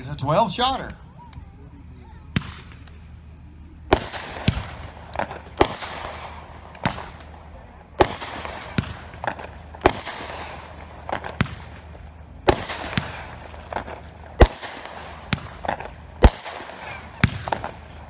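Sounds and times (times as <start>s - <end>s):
fireworks bangs: 0.0s - 18.0s
fireworks crackling hiss: 0.0s - 18.0s.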